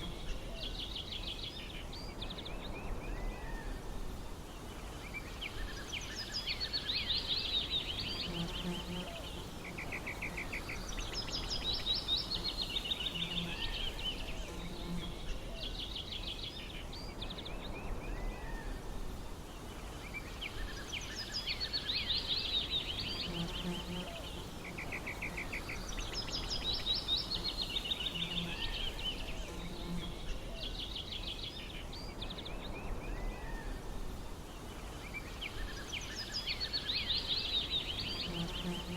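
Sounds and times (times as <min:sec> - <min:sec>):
small birds singing: 0:00.0 - 0:38.9.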